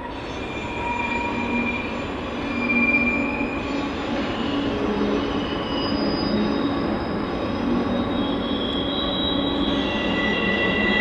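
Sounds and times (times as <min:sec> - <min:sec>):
freight train rumbling: 0:00.0 - 0:11.0
steel wheels squealing: 0:00.0 - 0:11.0.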